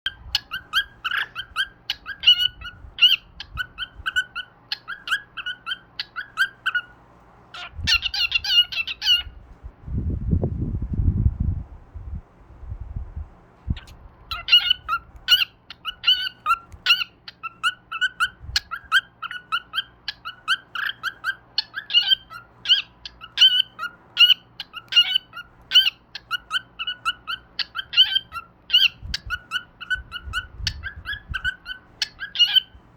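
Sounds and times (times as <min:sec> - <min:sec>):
cockatiel chirping: 0:00.1 - 0:09.4, 0:13.8 - 0:32.8.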